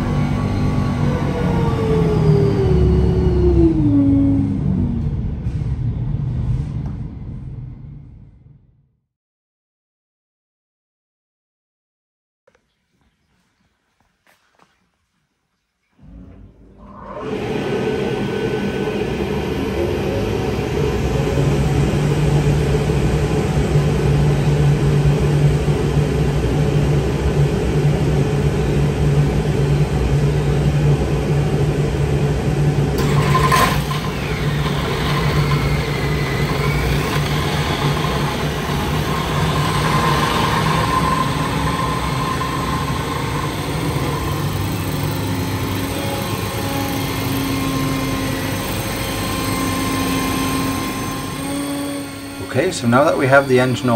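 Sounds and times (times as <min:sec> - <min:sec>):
aircraft engine running: 0:00.0 - 0:08.3, 0:16.1 - 0:53.9.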